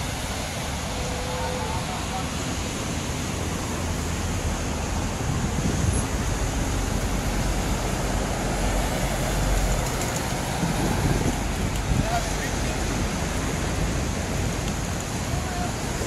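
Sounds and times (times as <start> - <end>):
beach ambience roar: 0.0 - 16.0.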